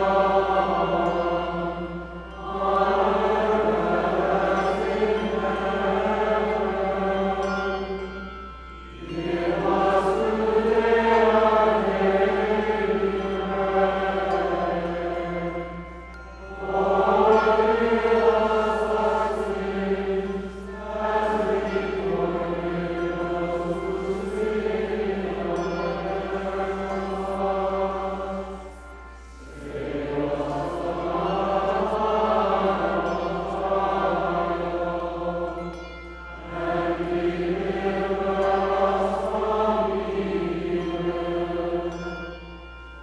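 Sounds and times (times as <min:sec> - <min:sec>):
choir singing a chant: 0:00.0 - 0:43.0.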